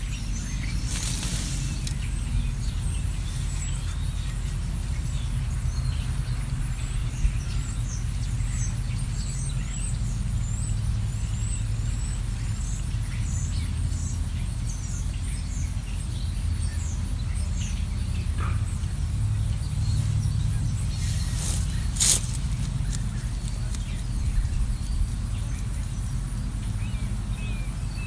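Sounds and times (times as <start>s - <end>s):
low rumble: 0.0s - 28.0s
songbirds chirping: 0.0s - 28.0s.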